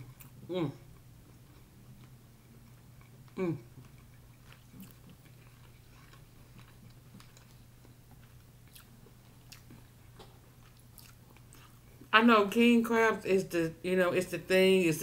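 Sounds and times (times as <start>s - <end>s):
faint chewing: 0.0s - 12.1s.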